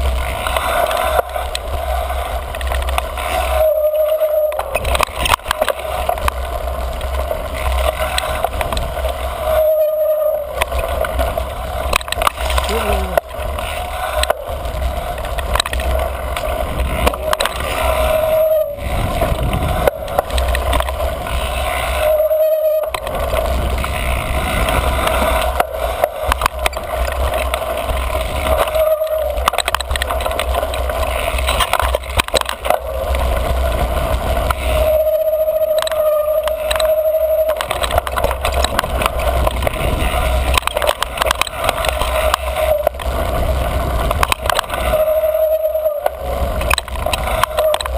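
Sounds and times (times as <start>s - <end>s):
bike rattling over bumps: 0.0s - 47.9s
bike tyres rolling on dirt: 0.0s - 47.9s
wind rumbling on microphone: 0.0s - 47.9s
bike brake squealing: 0.5s - 6.4s, 7.0s - 47.9s.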